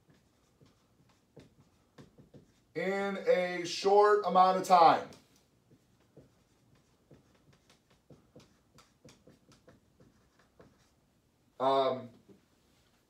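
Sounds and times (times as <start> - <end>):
marker writing on whiteboard: 0.0 - 3.7, 4.3 - 11.0.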